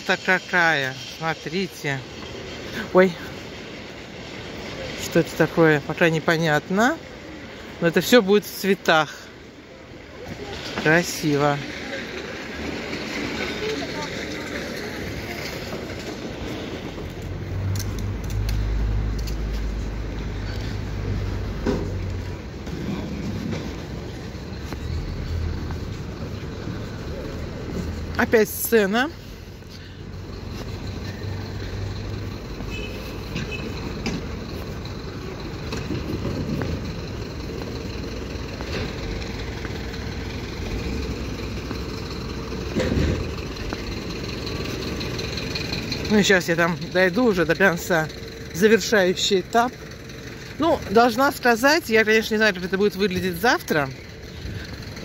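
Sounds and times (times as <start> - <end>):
city street noise: 0.0 - 55.0
low steady engine rumble: 0.0 - 55.0.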